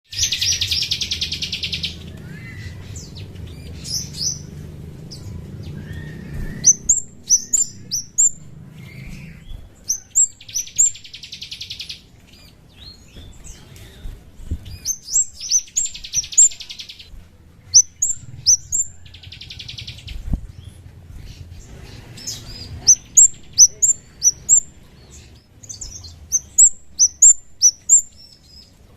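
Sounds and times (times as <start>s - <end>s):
songbird chirping and trilling: 0.0s - 28.9s.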